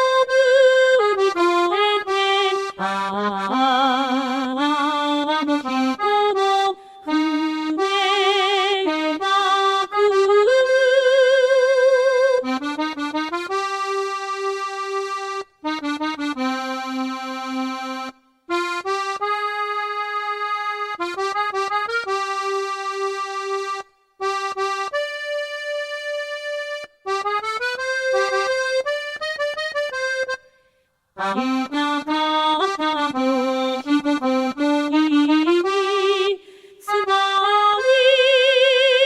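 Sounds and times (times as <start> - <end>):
electronic accordion melody: 0.0 - 39.0.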